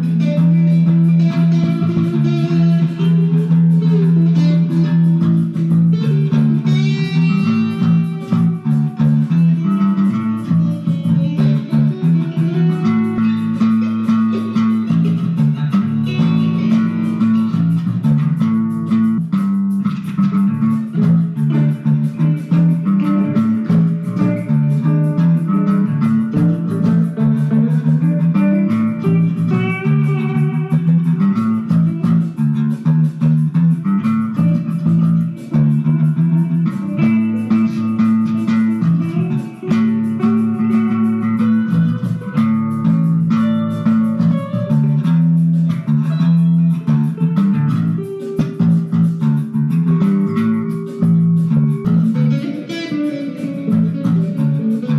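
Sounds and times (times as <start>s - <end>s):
electric bass line: 0.0s - 54.9s
electric guitar melody: 0.0s - 54.9s.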